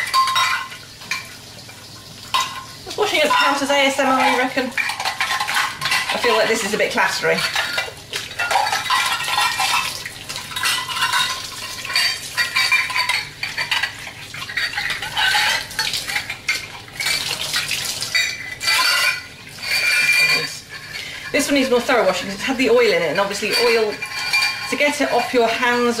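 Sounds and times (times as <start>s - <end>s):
dishes clinking and clattering: 0.0s - 26.0s.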